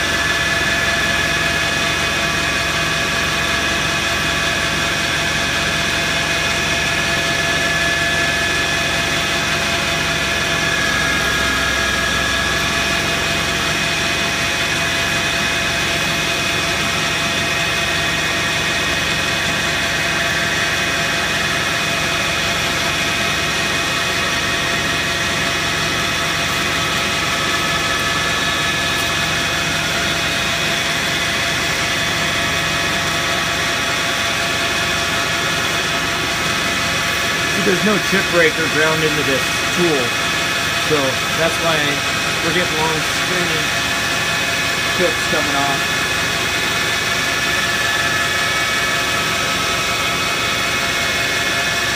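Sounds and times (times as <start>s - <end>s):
metal lathe whining: 0.0s - 51.9s.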